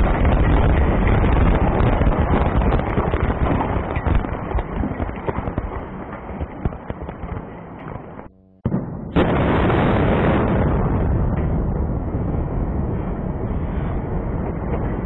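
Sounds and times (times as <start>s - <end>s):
rumble of falling debris: 0.0s - 15.0s.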